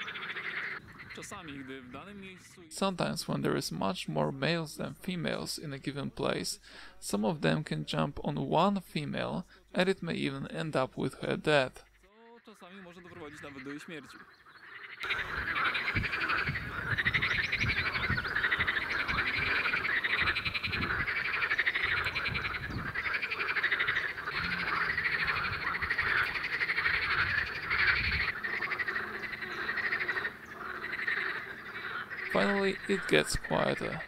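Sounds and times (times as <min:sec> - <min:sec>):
chorus of frogs croaking: 0:00.0 - 0:08.4, 0:09.1 - 0:34.0.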